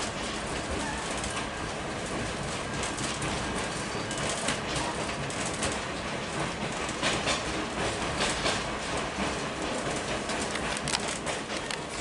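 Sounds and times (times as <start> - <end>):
train rushing noise: 0.0 - 12.0
train wheels clicking over rail joints: 0.0 - 12.0.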